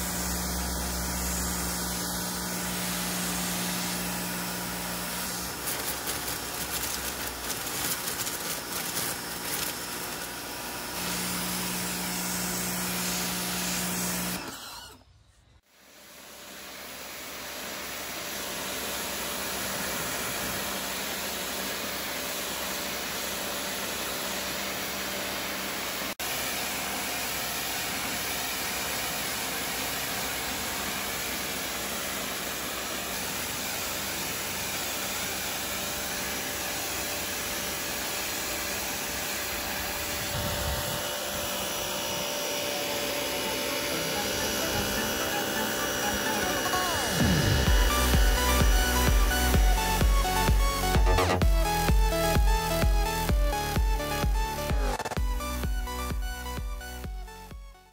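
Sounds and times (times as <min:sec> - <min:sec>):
high-pressure water jet hissing: 0:00.0 - 0:15.0, 0:15.8 - 0:51.0
pressure washer motor whine: 0:00.0 - 0:57.9.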